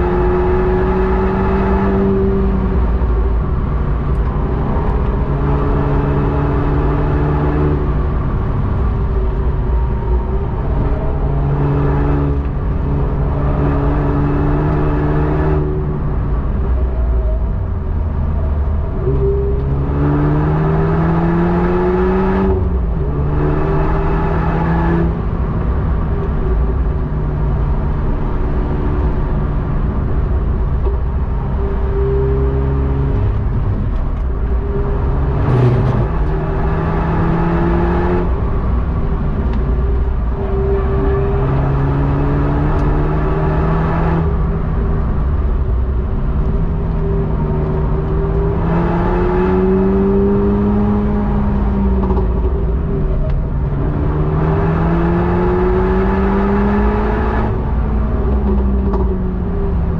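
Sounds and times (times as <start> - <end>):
car engine accelerating: 0.0 - 59.9
road and tyre noise: 0.0 - 59.9.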